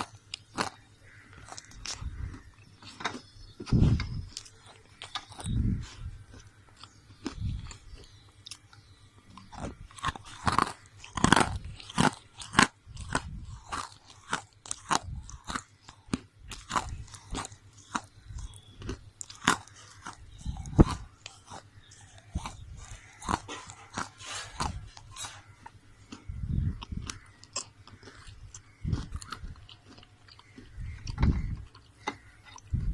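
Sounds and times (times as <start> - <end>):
crunching and chewing: 0.0 - 32.9.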